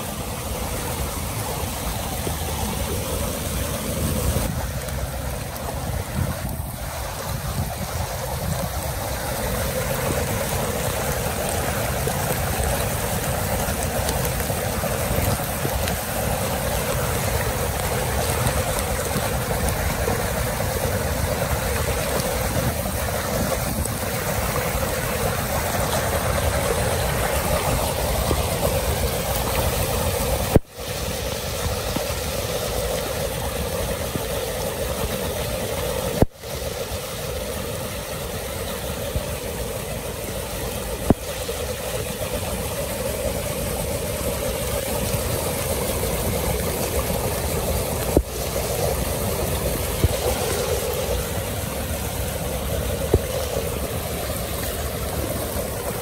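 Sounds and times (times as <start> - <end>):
water rushing into street drain: 0.0 - 56.0.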